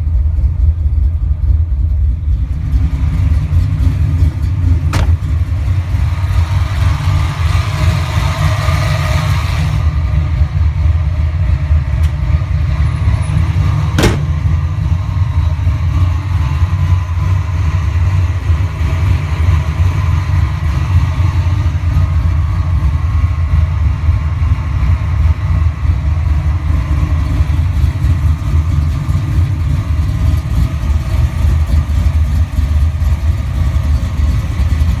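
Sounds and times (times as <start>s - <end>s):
car engine idling: 0.0s - 35.0s
supercharger whine: 0.0s - 35.0s.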